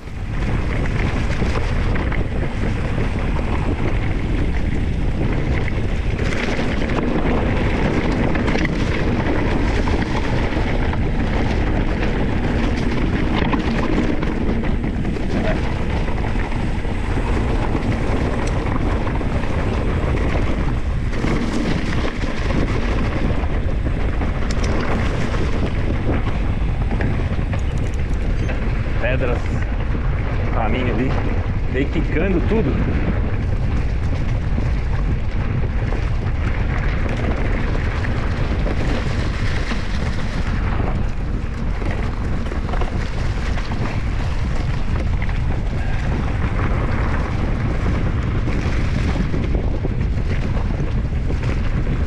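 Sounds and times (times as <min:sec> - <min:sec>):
bike ride rumble on dirt trail: 0:00.0 - 0:52.0
wind buffeting microphone: 0:00.0 - 0:52.0.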